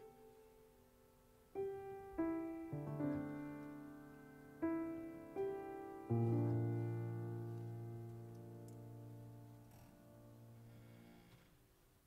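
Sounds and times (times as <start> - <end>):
piano chords: 0.0 - 11.4.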